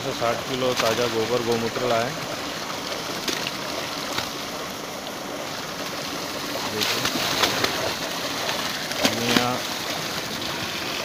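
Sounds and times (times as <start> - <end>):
water gushing from a pipe: 0.0 - 11.0
water splashing into a ditch: 0.0 - 11.0.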